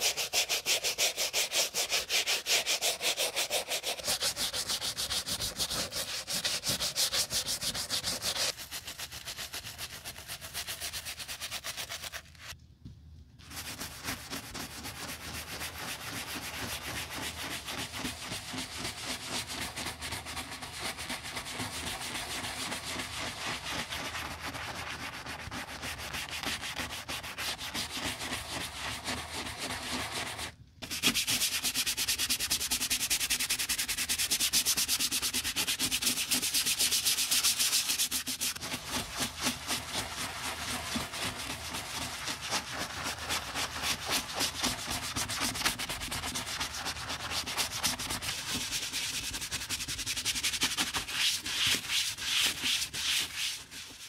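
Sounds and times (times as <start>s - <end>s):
brush scrubbing soapy insole: 0.0s - 12.6s, 13.4s - 54.0s.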